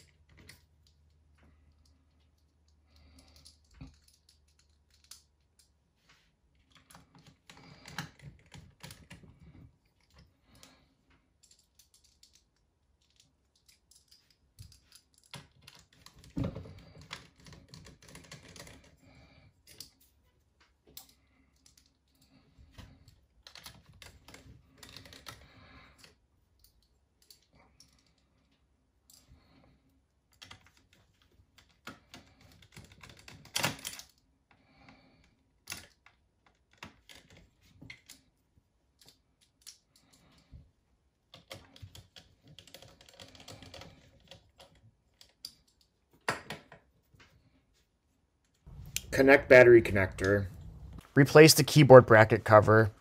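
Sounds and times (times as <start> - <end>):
small parts clicking and rattling: 0.0 - 5.8, 6.5 - 47.4.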